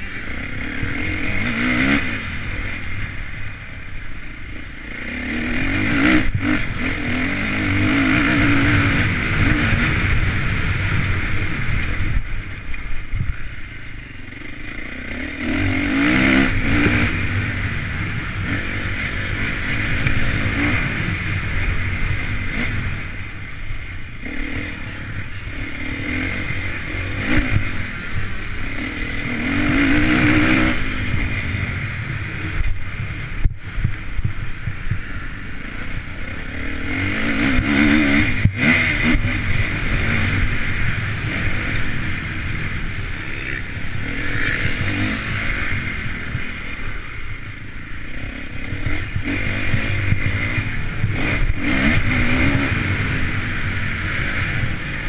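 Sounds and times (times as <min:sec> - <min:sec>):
motocross engine revving: 0:00.0 - 0:03.4, 0:04.1 - 0:12.3, 0:13.9 - 0:55.0.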